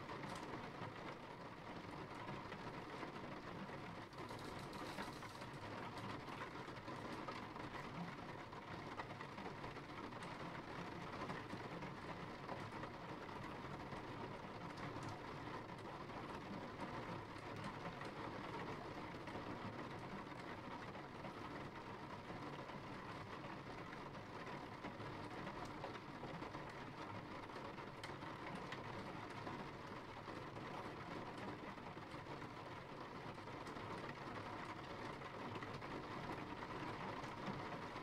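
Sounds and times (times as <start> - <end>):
faint raindrop ticks: 0.0 - 38.0.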